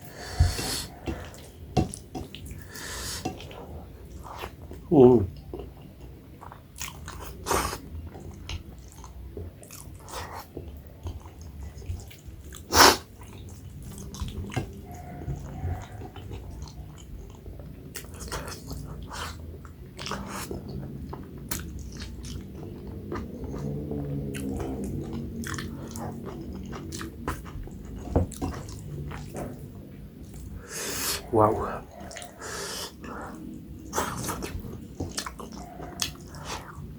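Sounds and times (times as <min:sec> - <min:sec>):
wet chewing and lip smacks: 0:05.4 - 0:30.6, 0:31.9 - 0:36.9.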